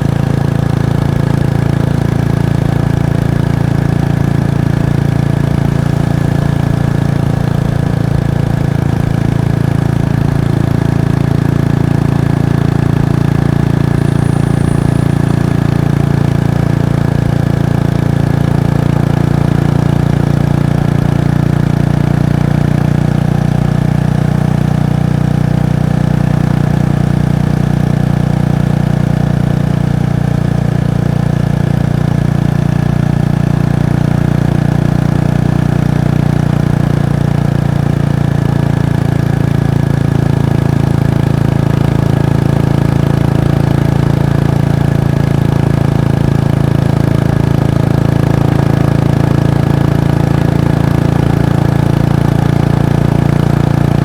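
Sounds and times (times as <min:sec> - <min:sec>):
single-cylinder engine running: 0:00.0 - 0:54.0.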